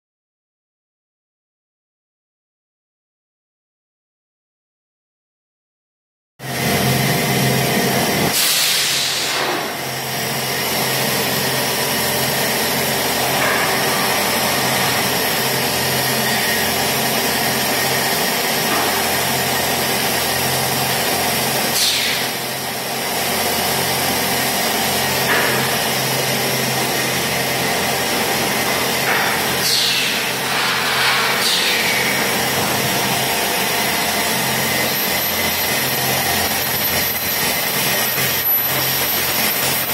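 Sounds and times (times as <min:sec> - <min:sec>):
pipe making machine humming: 0:06.4 - 0:39.9.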